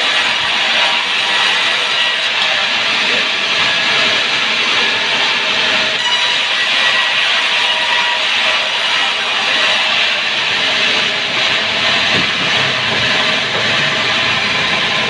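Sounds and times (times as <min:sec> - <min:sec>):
saw grinding through log: 0:00.0 - 0:15.0.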